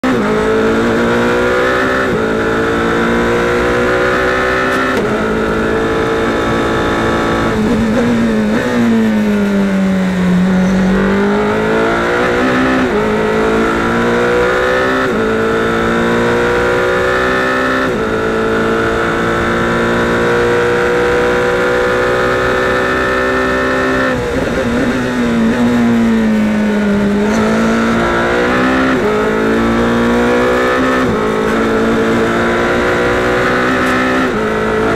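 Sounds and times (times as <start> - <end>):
race car engine at full throttle: 0.0 - 34.9.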